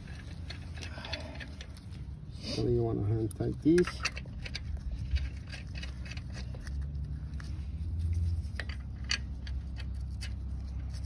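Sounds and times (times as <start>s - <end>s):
lug nuts clicking and scraping: 0.0s - 11.0s.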